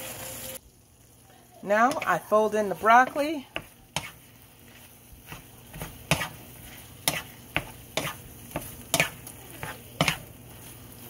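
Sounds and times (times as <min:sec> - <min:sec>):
sauce sizzling: 0:00.0 - 0:11.0
spatula scraping a frying pan: 0:01.9 - 0:11.0.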